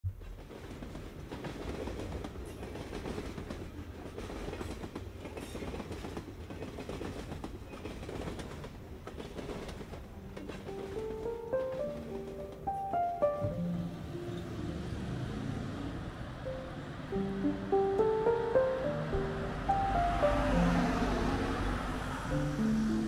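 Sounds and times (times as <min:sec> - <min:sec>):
train rumbling and rattling: 0:00.1 - 0:23.0.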